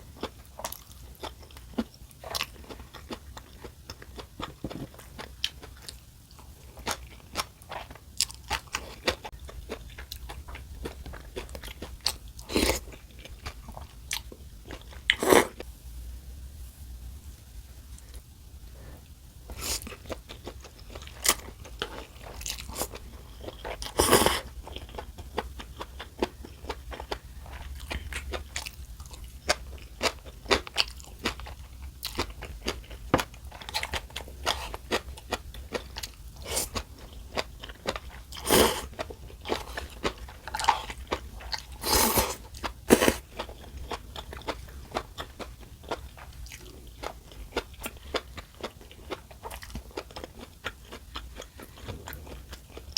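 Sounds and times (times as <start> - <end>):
chewing and crunching food: 0.0 - 15.7, 19.5 - 52.9
faint low hum: 0.0 - 52.9.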